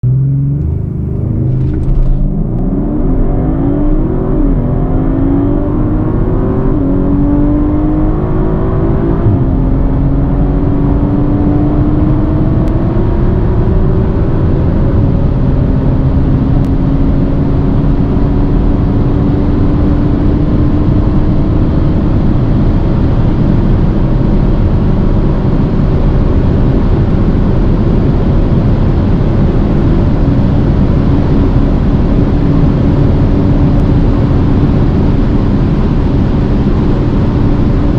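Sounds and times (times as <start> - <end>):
car engine accelerating hard: 0.0 - 37.9
wind and road noise: 0.0 - 37.9.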